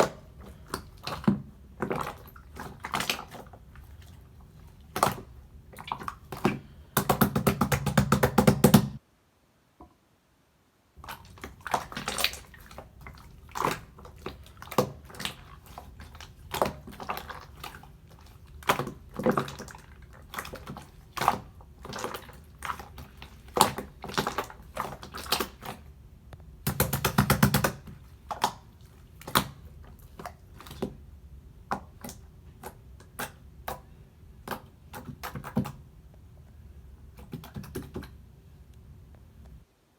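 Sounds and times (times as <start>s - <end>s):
slime squishing: 0.0s - 9.0s, 11.0s - 35.9s.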